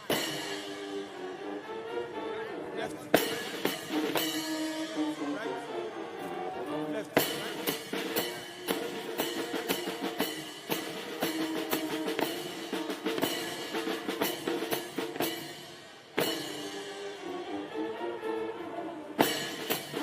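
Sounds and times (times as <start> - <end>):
military band playing: 0.0 - 20.0.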